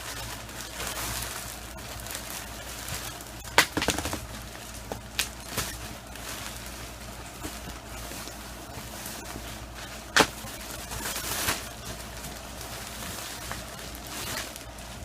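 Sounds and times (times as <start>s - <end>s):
plastic wrapping crinkling and tearing: 0.0s - 15.0s.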